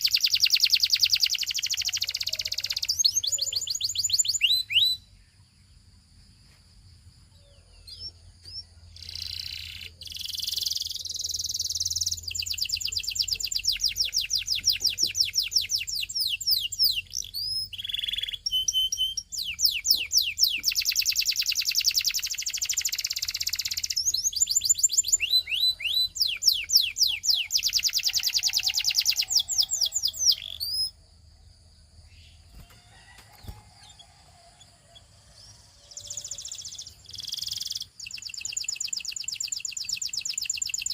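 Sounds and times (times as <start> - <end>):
canary singing rapid high trills: 0.0 - 5.2, 7.9 - 31.0, 32.2 - 40.9.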